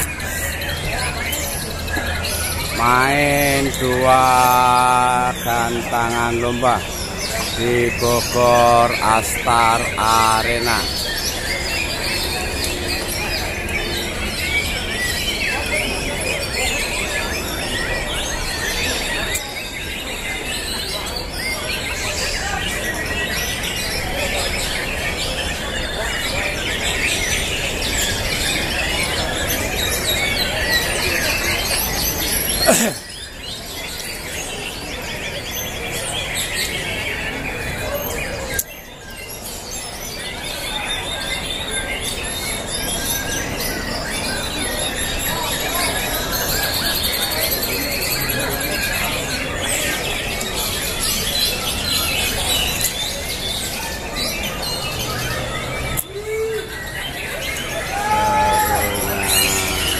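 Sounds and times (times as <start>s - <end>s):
crowd noise: 0.0s - 59.9s
songbirds chirping and trilling: 0.0s - 59.9s.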